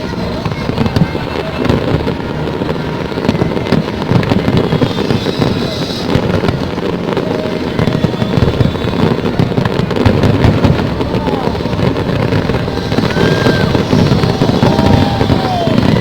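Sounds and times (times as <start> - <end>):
firework whistling: 0.0 - 16.0
fireworks bangs and crackles: 0.0 - 16.0.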